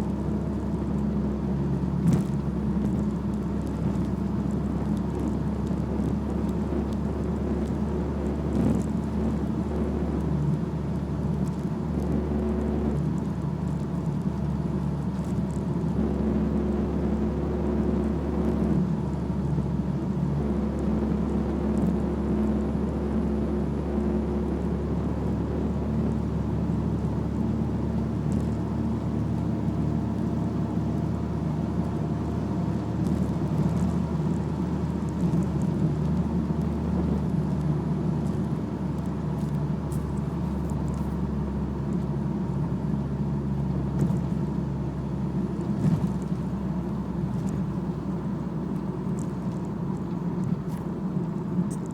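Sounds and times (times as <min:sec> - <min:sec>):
car running: 0:00.0 - 0:51.9
steady low hum: 0:00.0 - 0:51.9.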